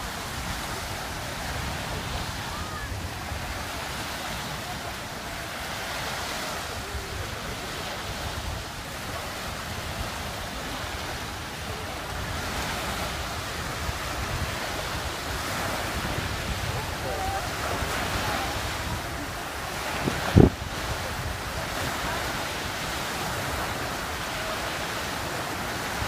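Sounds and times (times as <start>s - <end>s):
waves washing: 0.0s - 26.0s
wind buffeting microphone: 0.0s - 26.0s.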